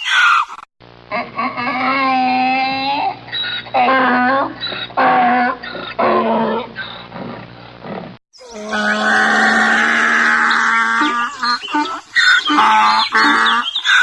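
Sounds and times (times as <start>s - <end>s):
donkey braying: 1.1s - 7.6s, 8.4s - 14.0s.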